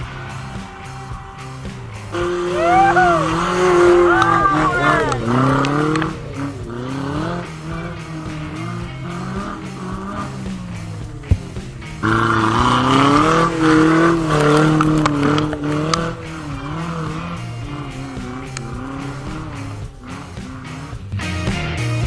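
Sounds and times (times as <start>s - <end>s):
background music: 0.0s - 22.0s
off-road vehicle engine revving: 0.0s - 22.0s.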